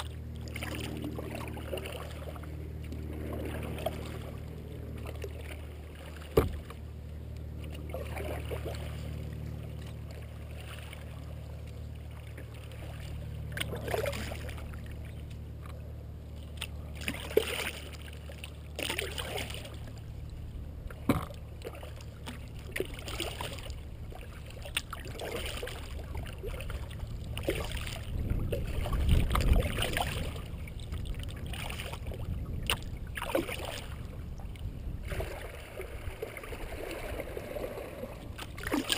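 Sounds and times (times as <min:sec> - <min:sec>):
paddle splashing in water: 0:00.0 - 0:06.8, 0:07.5 - 0:20.2, 0:20.8 - 0:38.9
low steady rumble: 0:00.0 - 0:38.9.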